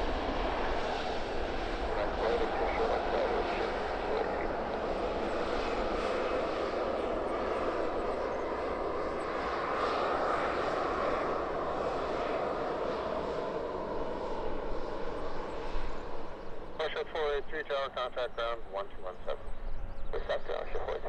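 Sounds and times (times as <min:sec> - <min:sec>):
airliner engines rushing: 0:00.0 - 0:21.0.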